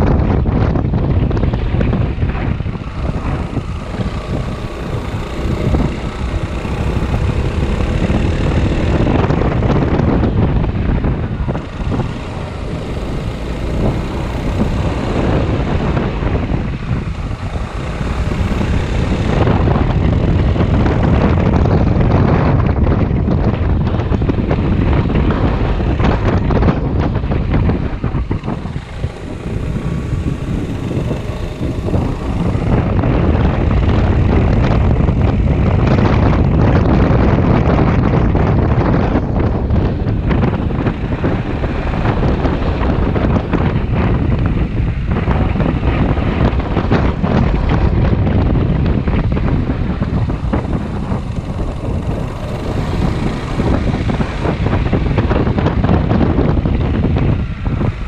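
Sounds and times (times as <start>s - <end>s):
scooter engine running under throttle: 0.0s - 58.0s
wind noise on microphone: 0.0s - 58.0s.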